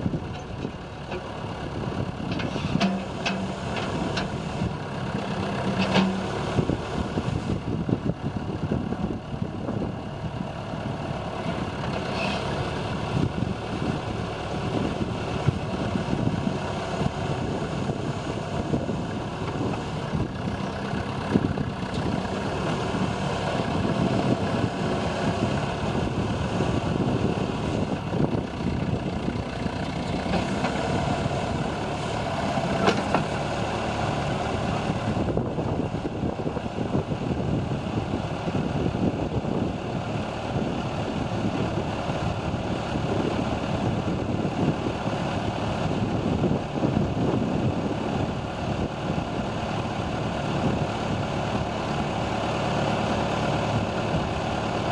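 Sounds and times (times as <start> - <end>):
backhoe engine running: 0.0 - 54.9.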